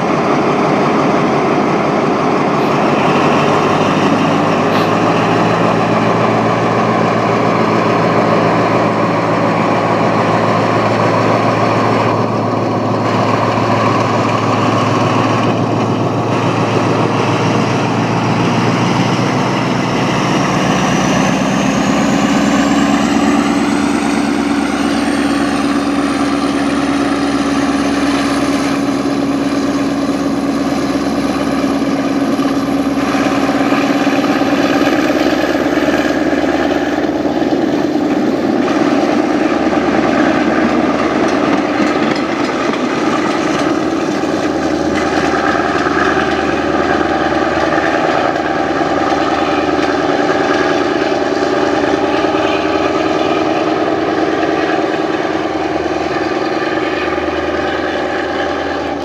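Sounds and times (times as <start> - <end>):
diesel train engine running: 0.0 - 59.0.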